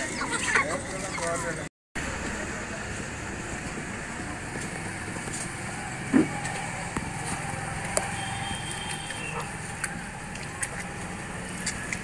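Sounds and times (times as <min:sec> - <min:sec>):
background traffic noise: 0:00.0 - 0:12.0.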